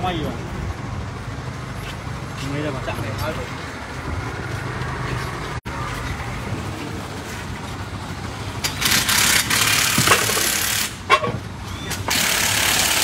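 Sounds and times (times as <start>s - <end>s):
low engine hum: 0.0s - 12.1s.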